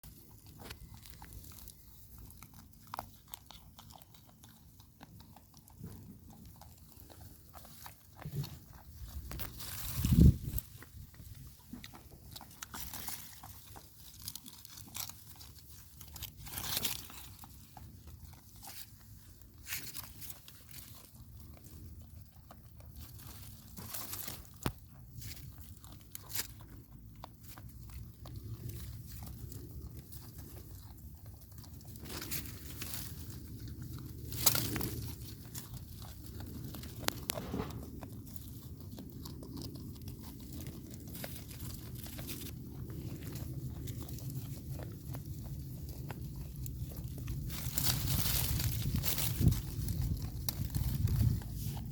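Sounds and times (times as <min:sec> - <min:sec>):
goat chewing plants: 0:00.0 - 0:51.9.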